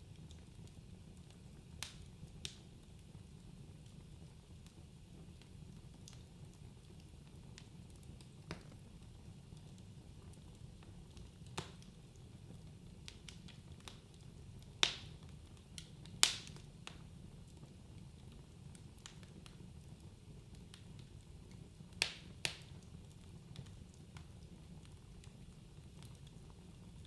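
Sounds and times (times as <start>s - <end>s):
fire crackles: 0.0s - 27.0s
fire popping: 0.0s - 27.0s
wood fire rumbling: 0.0s - 27.0s.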